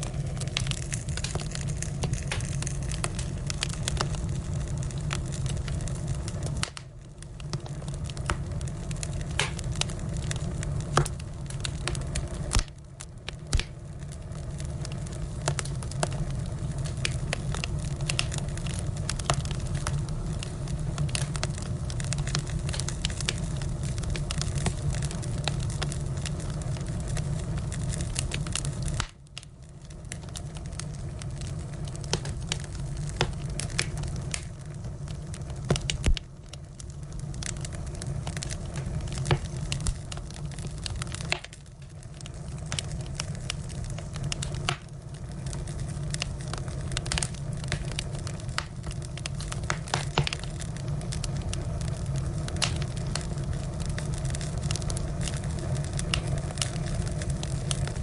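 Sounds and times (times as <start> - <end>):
firewood crackling and popping: 0.0 - 58.0
low rumble of fire: 0.0 - 58.0.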